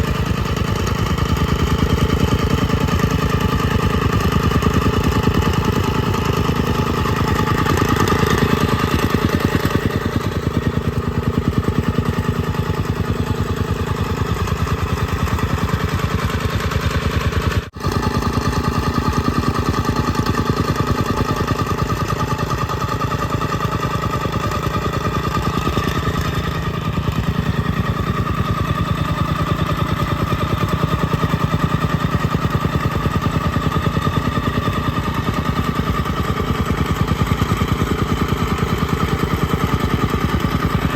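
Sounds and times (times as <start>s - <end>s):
compactor engine pulsing: 0.0s - 40.9s.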